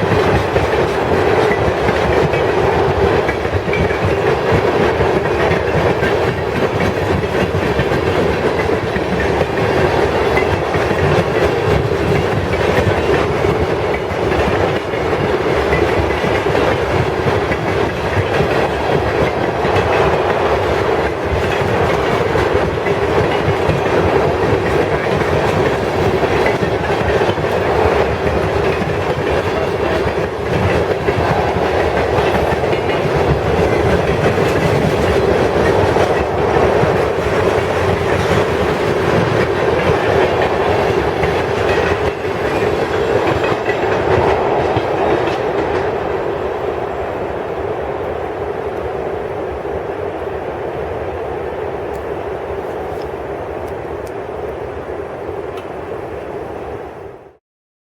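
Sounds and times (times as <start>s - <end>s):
wheels clickety-clack on rail joints: 0.0s - 46.5s
train wheels rumbling on rail: 0.0s - 57.4s.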